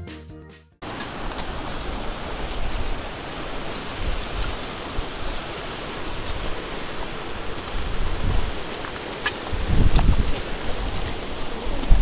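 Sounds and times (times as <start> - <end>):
wind buffeting microphone: 1.1 - 12.0.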